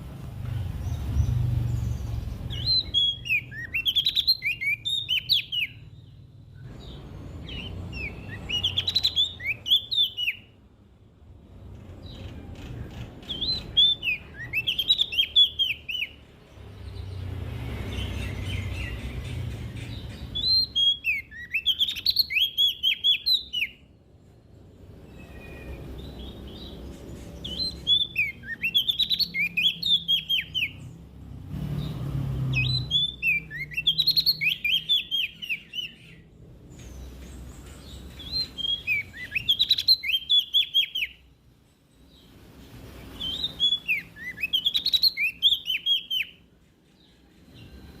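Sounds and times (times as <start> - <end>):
warbler singing: 0.0 - 48.0.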